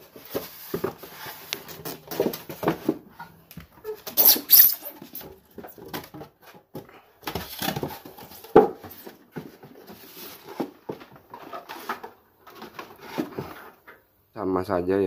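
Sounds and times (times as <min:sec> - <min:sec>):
casing rustling and scraping: 0:00.0 - 0:14.0.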